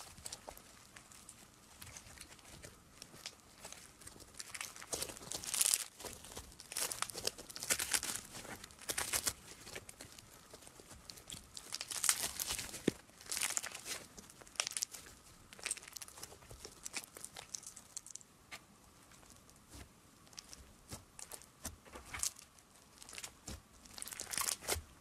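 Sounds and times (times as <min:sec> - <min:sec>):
slime crackling and popping: 0:00.0 - 0:18.2, 0:19.1 - 0:25.0.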